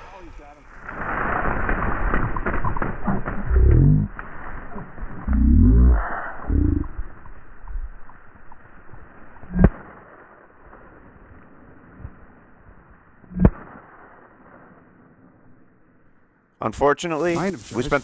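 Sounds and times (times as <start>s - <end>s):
faint rustle of wind: 0.0s - 16.2s.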